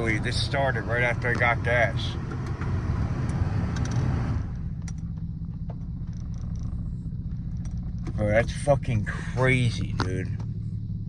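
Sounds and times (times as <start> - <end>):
car engine misfiring: 0.0 - 11.0.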